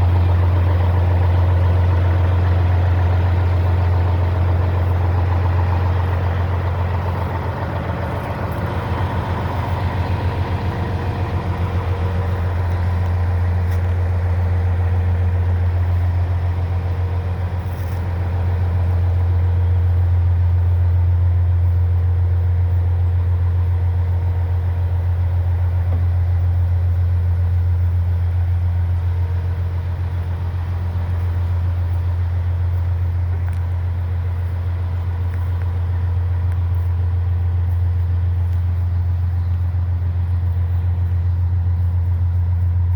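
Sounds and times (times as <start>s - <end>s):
diesel truck engine idling: 0.0s - 42.9s.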